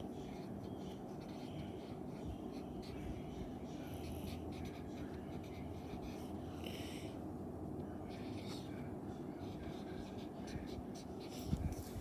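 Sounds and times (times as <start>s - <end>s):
marker pen scratching on paper: 0.0s - 7.0s, 8.1s - 12.0s.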